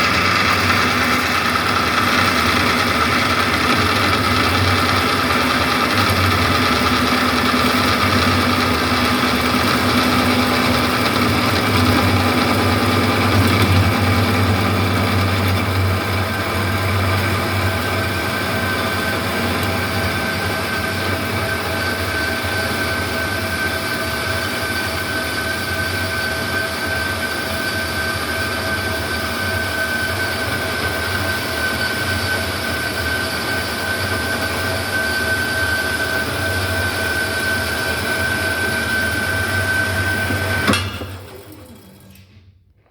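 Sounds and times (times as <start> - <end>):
high whine of bandsaw: 0.0 - 42.2
bandsaw motor hum: 0.0 - 42.3.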